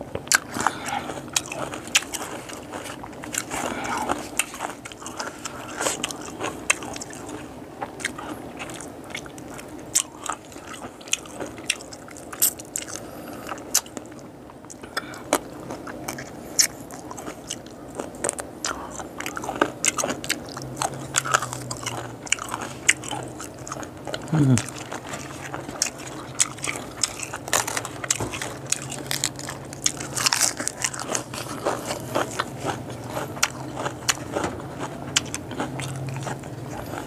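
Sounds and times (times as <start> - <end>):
person chewing crunchy bones: 0.0 - 37.0.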